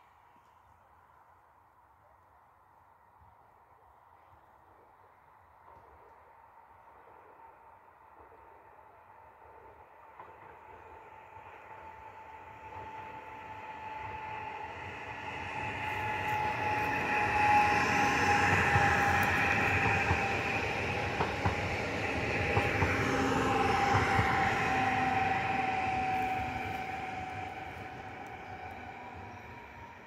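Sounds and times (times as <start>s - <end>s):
electric train whine: 2.9s - 30.0s
wheels rushing on rails: 5.6s - 30.0s.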